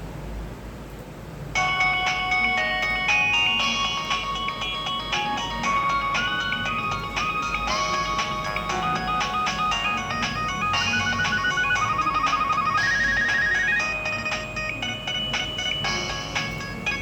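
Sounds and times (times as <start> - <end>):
polyphonic phone ringtone: 1.6 - 17.0.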